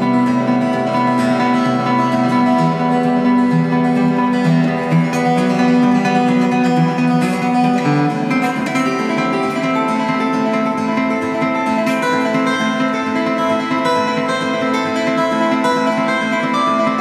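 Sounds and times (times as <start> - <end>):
fingerstyle acoustic guitar: 0.0 - 17.0.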